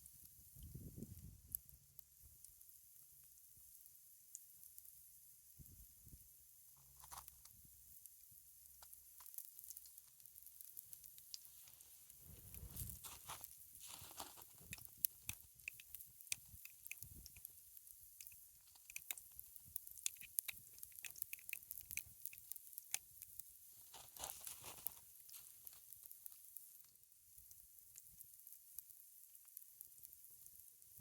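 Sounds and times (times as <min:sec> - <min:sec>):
campfire crackles and pops: 0:00.0 - 0:31.0
pancakes sizzling in skillet: 0:00.0 - 0:31.0.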